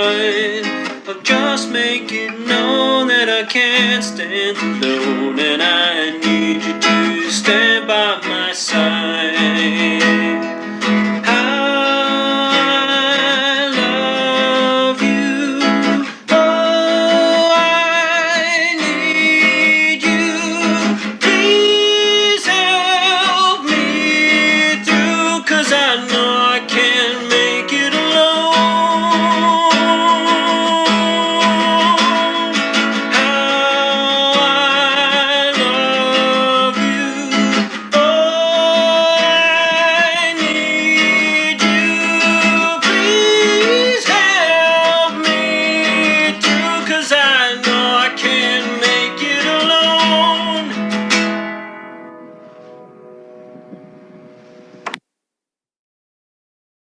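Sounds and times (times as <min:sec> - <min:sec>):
person singing: 0:00.0 - 0:52.8
acoustic guitar: 0:00.0 - 0:55.0.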